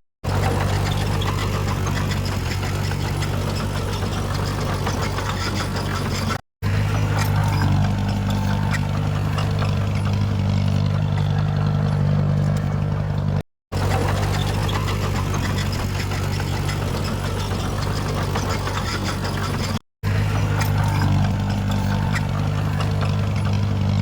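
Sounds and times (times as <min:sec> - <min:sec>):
heavy diesel engine droning: 0:00.2 - 0:24.0.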